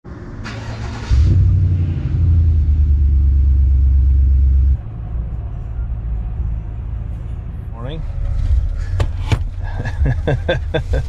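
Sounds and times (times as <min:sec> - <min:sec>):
pickup truck engine rumbling: 0:00.1 - 0:11.0.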